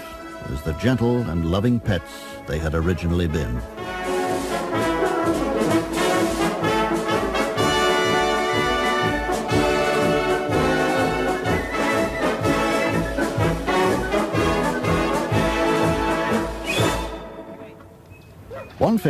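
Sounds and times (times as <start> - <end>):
orchestral music with brass: 0.0 - 17.8.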